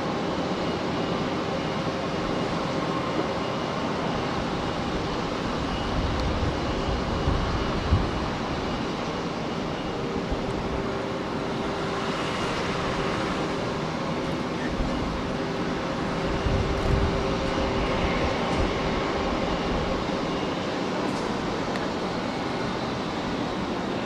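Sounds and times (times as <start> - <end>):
jet engines rushing: 0.0 - 24.0.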